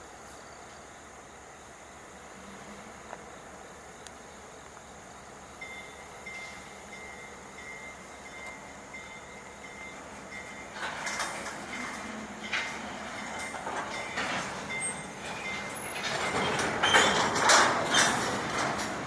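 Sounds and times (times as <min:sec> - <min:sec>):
freight train clanking and rattling: 0:01.3 - 0:19.0.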